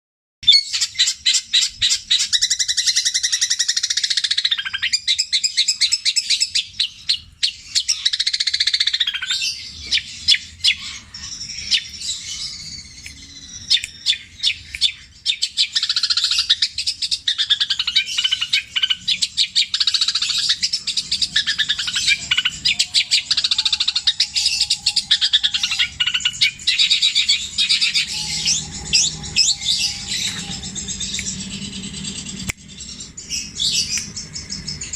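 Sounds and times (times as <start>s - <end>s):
bird singing rattling mimicked calls: 0.4s - 34.9s.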